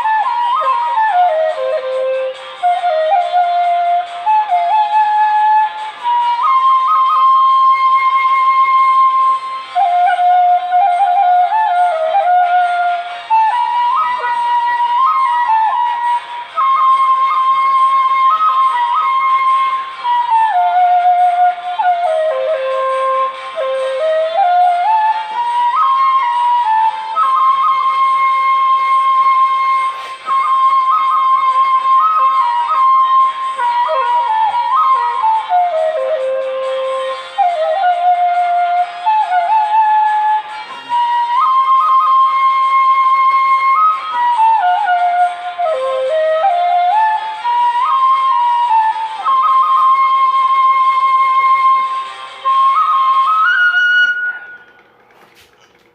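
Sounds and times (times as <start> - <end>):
bamboo flute melody: 0.0 - 55.9.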